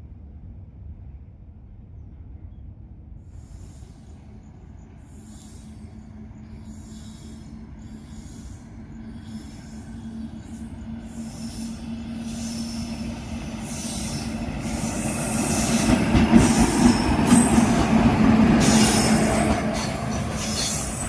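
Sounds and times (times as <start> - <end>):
train wheels rumbling on rails: 0.9 - 21.0.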